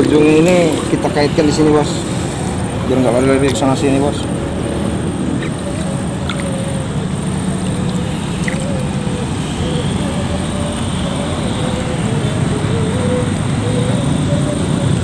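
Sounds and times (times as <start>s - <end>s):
distant traffic rumble: 0.0s - 15.0s
faint wavering hum: 0.0s - 15.0s.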